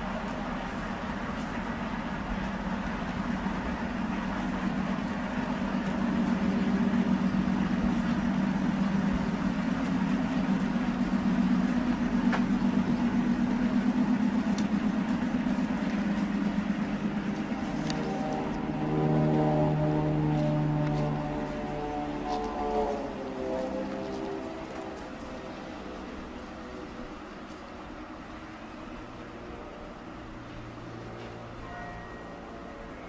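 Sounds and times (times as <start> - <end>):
locomotive diesel engines droning: 0.0 - 33.0.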